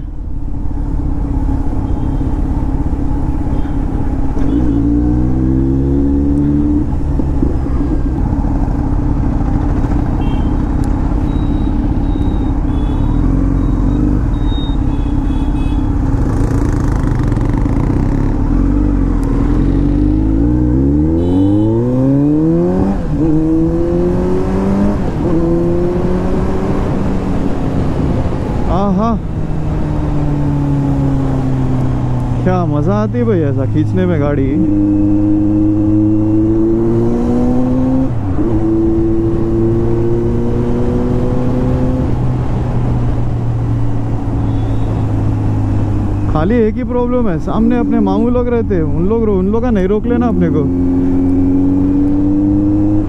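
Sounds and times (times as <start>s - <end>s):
motorcycle engine revving: 3.2s - 46.7s, 47.4s - 53.0s.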